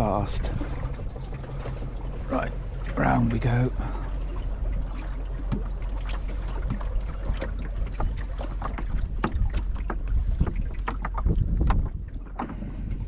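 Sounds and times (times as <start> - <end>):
water slapping against wooden hull: 0.0 - 13.0
wind rumble on microphone: 0.0 - 13.0.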